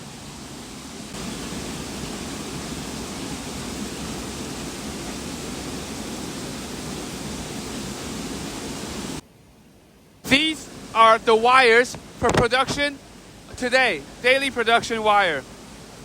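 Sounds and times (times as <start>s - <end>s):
factory machines running: 0.0s - 9.2s, 10.2s - 16.0s.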